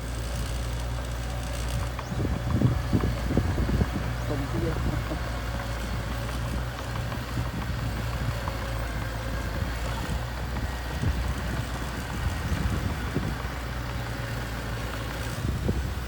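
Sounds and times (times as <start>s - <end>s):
mini bulldozer engine running: 0.0s - 16.0s.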